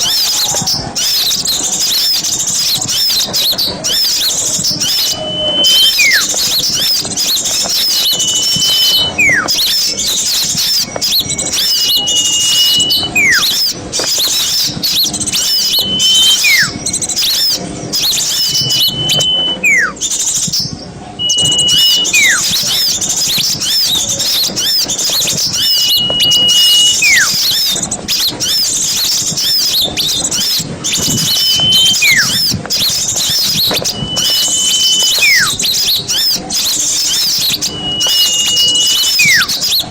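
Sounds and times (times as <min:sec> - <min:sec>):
bird whistle call: 0:00.0 - 0:39.9
songbirds chirping: 0:00.0 - 0:39.9.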